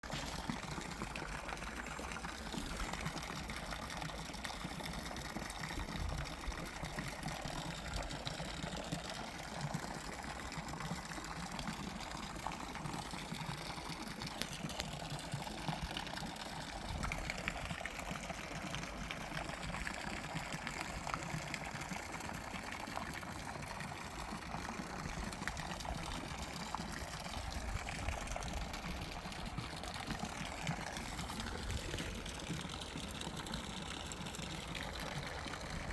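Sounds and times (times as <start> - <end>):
water running and pouring: 0.0 - 35.9.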